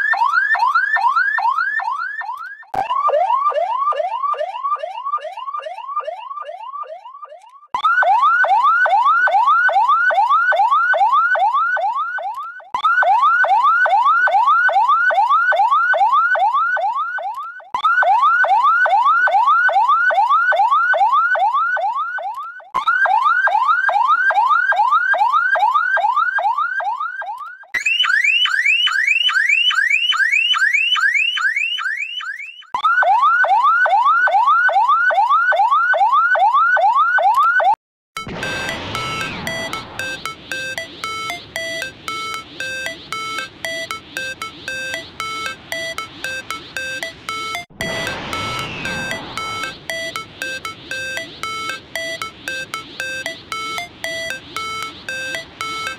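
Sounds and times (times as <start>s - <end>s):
ambulance siren yelp: 0.0s - 55.9s.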